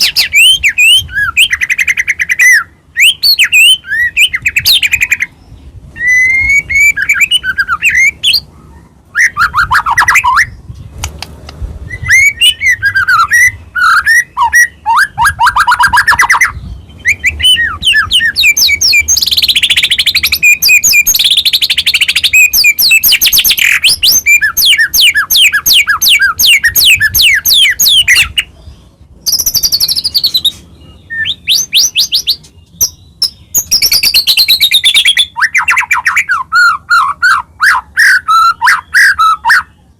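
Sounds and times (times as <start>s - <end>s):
songbird singing whistles and trills: 0.0s - 11.1s, 11.8s - 39.9s.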